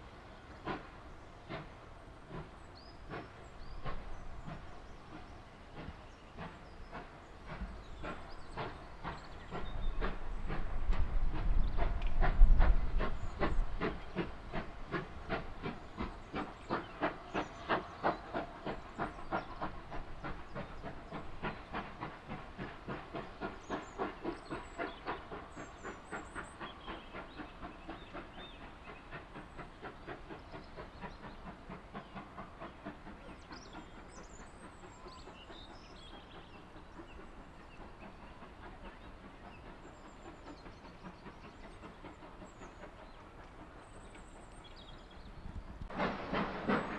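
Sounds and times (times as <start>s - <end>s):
steam locomotive exhaust beats: 0.0s - 46.9s.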